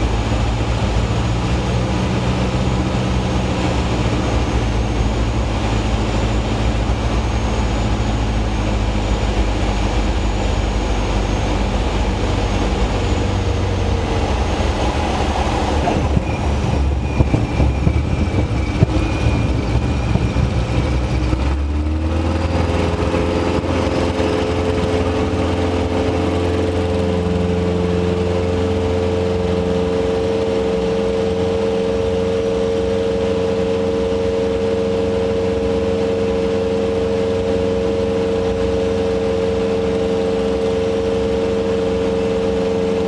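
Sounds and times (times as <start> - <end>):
light aircraft engine and propeller drone: 0.0 - 43.0.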